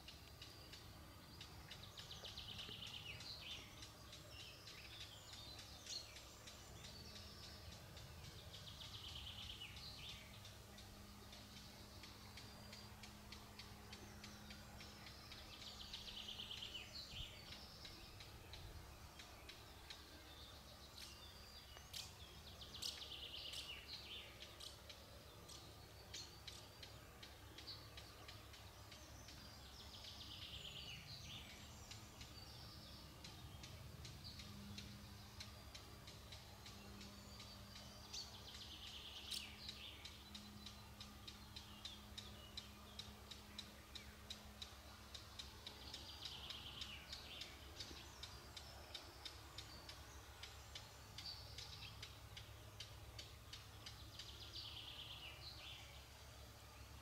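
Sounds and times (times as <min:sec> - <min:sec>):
light ticks: 0:00.0 - 0:30.5, 0:31.1 - 0:54.7
faint low hum: 0:00.0 - 0:57.0.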